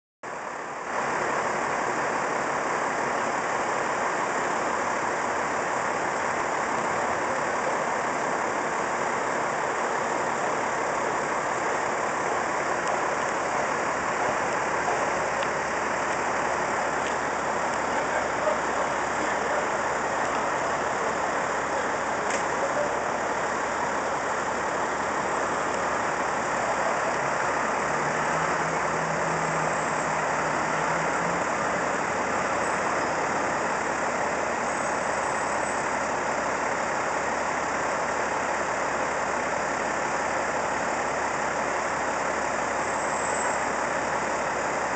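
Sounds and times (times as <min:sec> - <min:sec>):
diesel engine idling: 0:00.2 - 0:44.9
street noise: 0:00.2 - 0:44.9.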